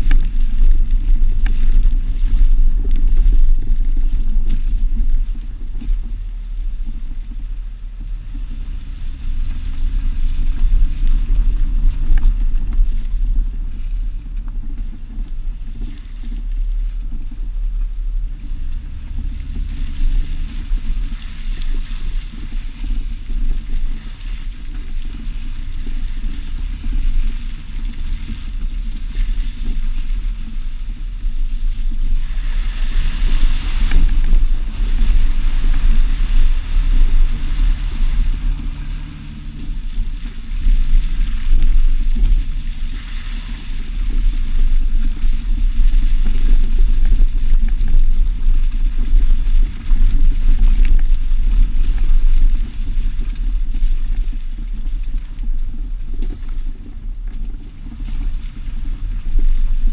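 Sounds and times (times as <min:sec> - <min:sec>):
car engine and tyre noise: 0:00.0 - 0:59.9
wind buffeting microphone: 0:00.0 - 0:59.9.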